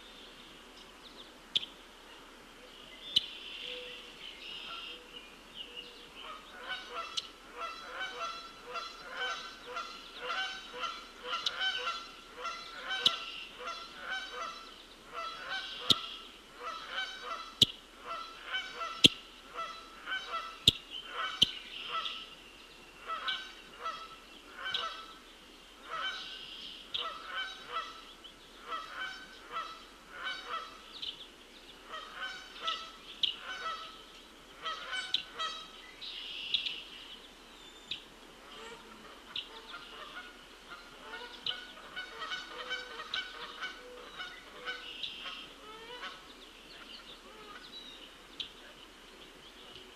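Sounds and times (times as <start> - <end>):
birds calling: 0.0 - 49.9.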